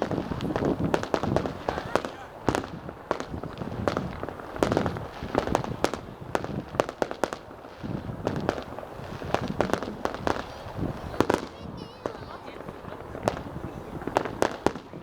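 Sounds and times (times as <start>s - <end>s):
fireworks bangs: 0.0s - 15.0s
fireworks rumble and crackle: 0.0s - 15.0s.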